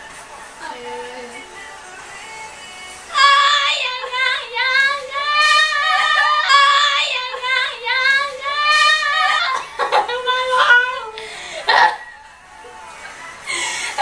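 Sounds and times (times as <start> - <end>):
women singing in high voices: 0.6 - 14.0.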